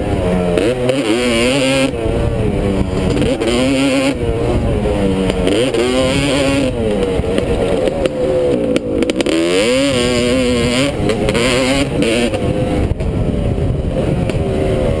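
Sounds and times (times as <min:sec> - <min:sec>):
dirt bike engine revving: 0:00.0 - 0:15.0
rushing wind: 0:00.0 - 0:15.0.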